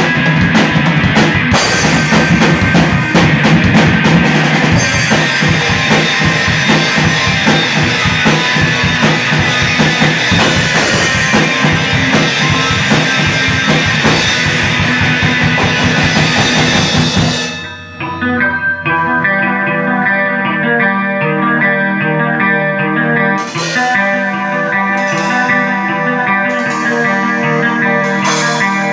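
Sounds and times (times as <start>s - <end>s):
electric guitar picking notes: 0.0s - 28.9s
rock band playing: 0.0s - 28.9s.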